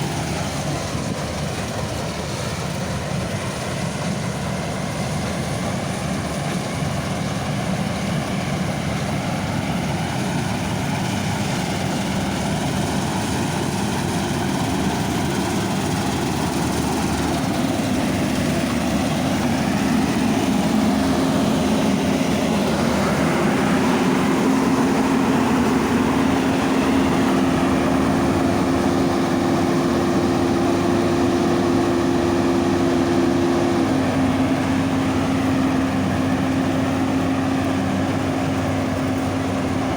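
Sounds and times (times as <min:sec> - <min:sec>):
diesel engine running: 0:00.0 - 0:39.9
steady machine whine: 0:00.0 - 0:39.9.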